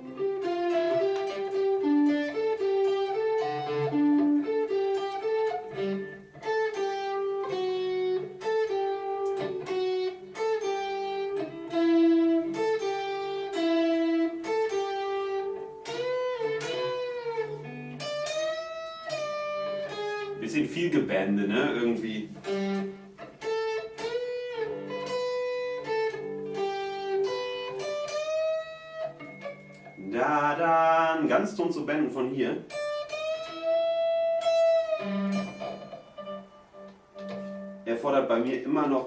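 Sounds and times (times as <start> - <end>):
solo guitar lead line: 0.0 - 39.0.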